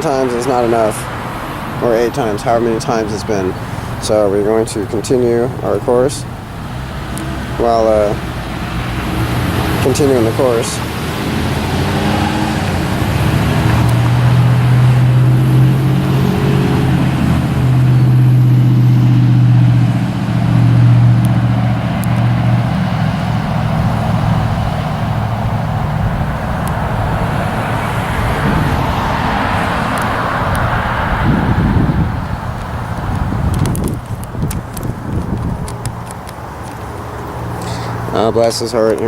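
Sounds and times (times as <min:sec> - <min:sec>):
rushing noise: 0:00.0 - 0:38.8
engine droning: 0:00.0 - 0:39.0.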